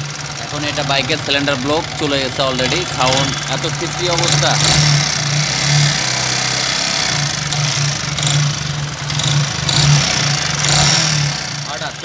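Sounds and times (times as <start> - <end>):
motorcycle engine idling roughly: 0.0 - 12.0.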